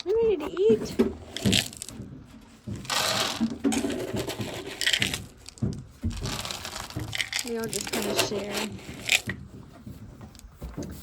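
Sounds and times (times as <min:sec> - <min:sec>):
dry cat food rattling into bowl: 0:00.0 - 0:09.5.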